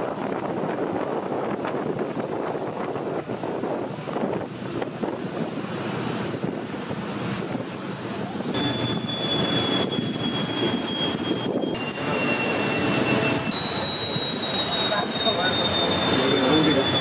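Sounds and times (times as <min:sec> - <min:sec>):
high-pitched whine: 0:00.0 - 0:17.0
machinery noise: 0:00.9 - 0:17.0.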